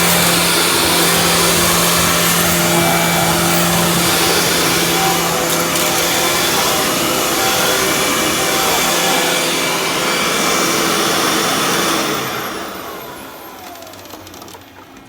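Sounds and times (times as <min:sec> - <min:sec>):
motor winding down whine: 0:00.0 - 0:15.0
upright vacuum cleaner running: 0:00.0 - 0:15.0.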